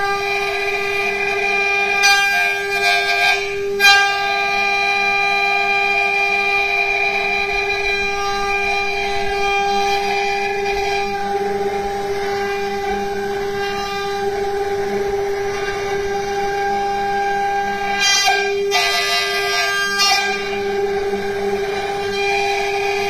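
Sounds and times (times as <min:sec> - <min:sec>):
bit cutting wood: 0:00.0 - 0:23.0
router spindle high-pitched whine: 0:00.0 - 0:23.0.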